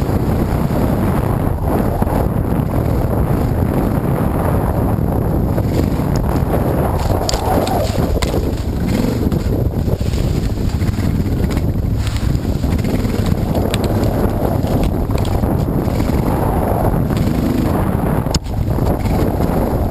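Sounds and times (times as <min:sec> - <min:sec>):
motorcycle engine revving: 0:00.0 - 0:19.9
wind buffeting on microphone: 0:00.0 - 0:19.9.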